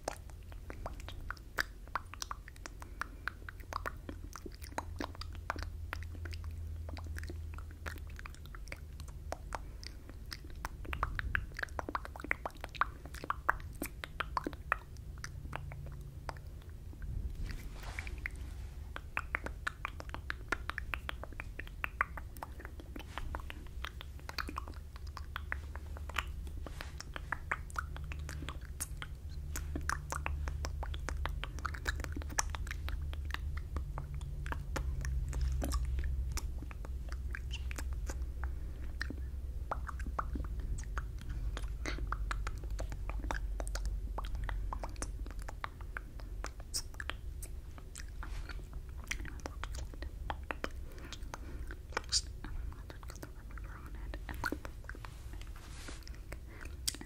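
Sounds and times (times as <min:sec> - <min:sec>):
wet lip smacks and tongue clicks: 0:00.0 - 0:57.0
low rumble: 0:05.0 - 0:57.0.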